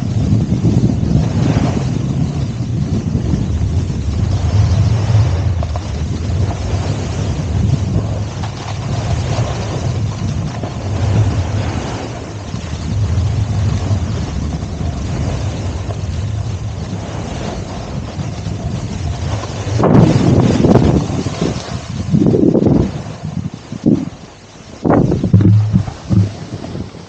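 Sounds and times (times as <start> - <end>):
skis scraping through slushy snow: 0.0 - 27.0
wind rushing over microphone: 0.0 - 27.0.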